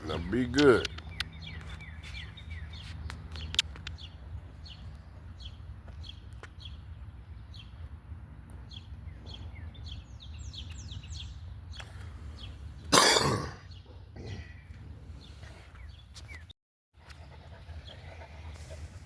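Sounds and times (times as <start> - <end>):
small birds chirping: 0.0 - 13.0, 13.6 - 19.0.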